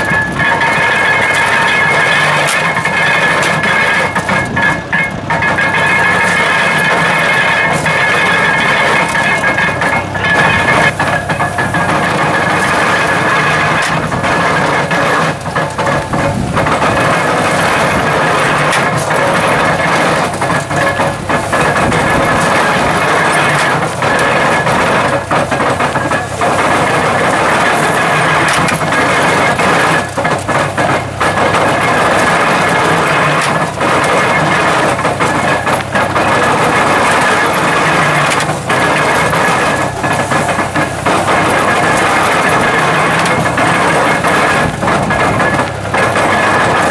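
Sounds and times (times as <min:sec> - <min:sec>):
hay baler running: 0:00.0 - 0:46.9.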